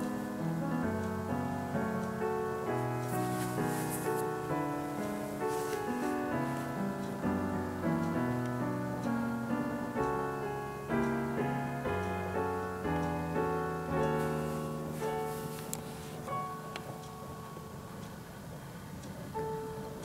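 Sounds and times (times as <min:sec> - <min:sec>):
piano music: 0:00.0 - 0:18.4, 0:19.3 - 0:20.0.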